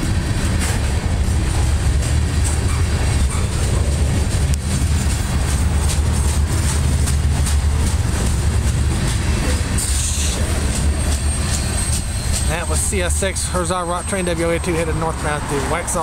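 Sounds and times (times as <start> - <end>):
freight train rumbling: 0.0 - 16.0
wheels clicking over rail joints: 0.0 - 16.0.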